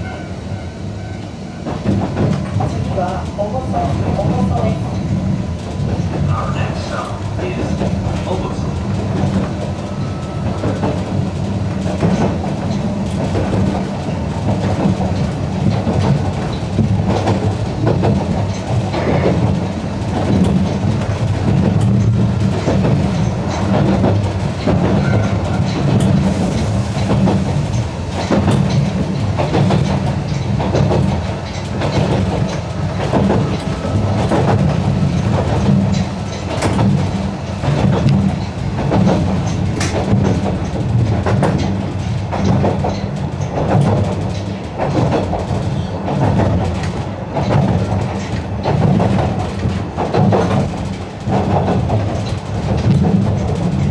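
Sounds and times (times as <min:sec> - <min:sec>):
train rumble: 0:00.0 - 0:53.9
wheels clicking over rail joints: 0:01.6 - 0:53.9.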